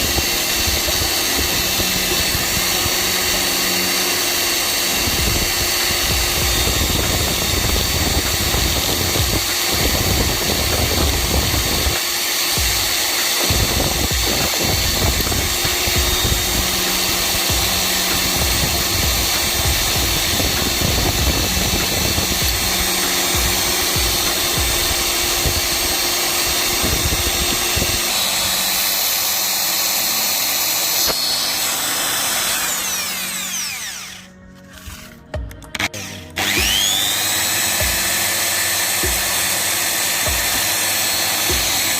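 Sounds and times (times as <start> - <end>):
electric power tool running: 0.0 - 41.9.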